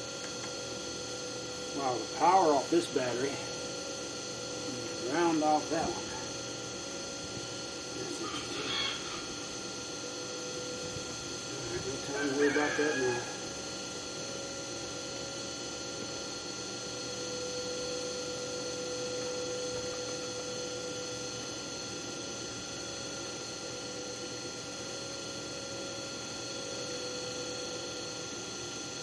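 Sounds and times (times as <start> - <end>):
steady multi-tone hum: 0.0 - 29.0.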